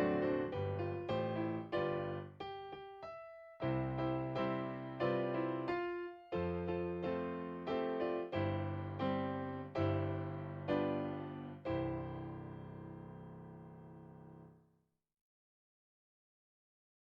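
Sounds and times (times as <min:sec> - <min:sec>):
piano playing slow chords: 0:00.0 - 0:14.5.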